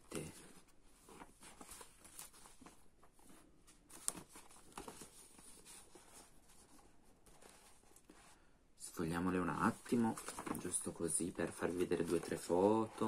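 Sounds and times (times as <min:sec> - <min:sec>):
magazine pages rustling: 0:00.1 - 0:08.4, 0:09.0 - 0:13.0.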